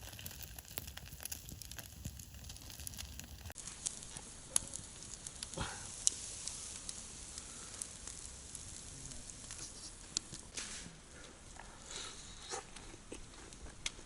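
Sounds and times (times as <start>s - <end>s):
food sizzling over fire: 0.0s - 12.4s
fire crackling and popping: 0.0s - 14.0s.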